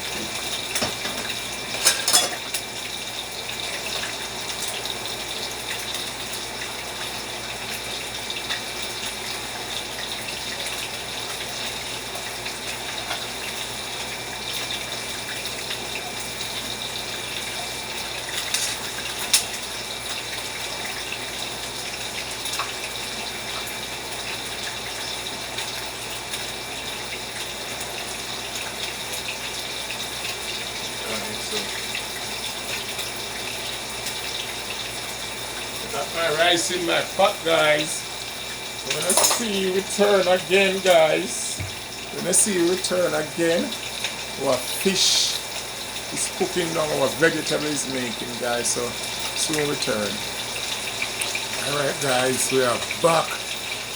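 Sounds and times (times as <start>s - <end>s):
food hissing in pots: 0.0s - 53.9s.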